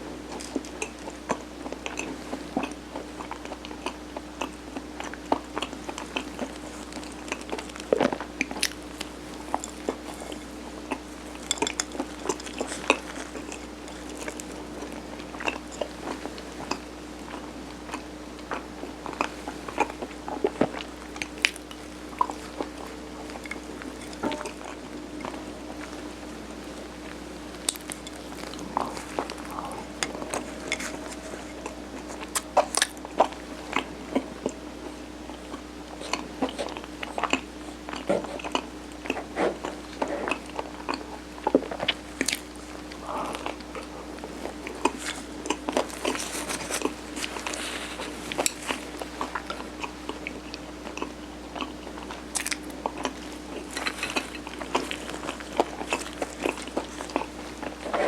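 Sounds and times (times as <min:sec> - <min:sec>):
faint steady hum: 0:00.0 - 0:58.0
chewing and biting rice cake: 0:00.1 - 0:58.0.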